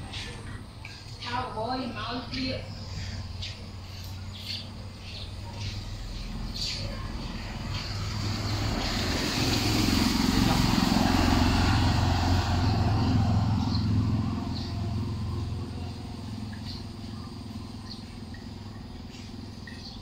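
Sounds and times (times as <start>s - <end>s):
bird chirps: 0.0s - 9.0s, 12.7s - 20.0s
vehicle passing by: 0.0s - 20.0s.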